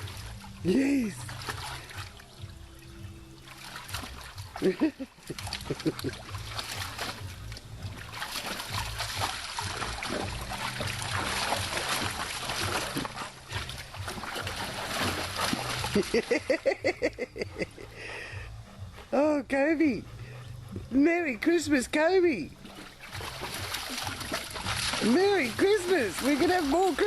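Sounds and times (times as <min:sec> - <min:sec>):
dog splashing water: 0:00.0 - 0:18.0, 0:20.3 - 0:27.0.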